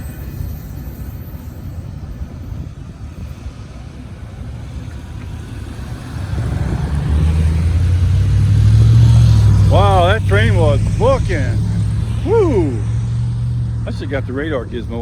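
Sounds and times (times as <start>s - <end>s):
diesel engine hum: 0.0s - 15.0s
freight train rumble: 0.0s - 15.0s.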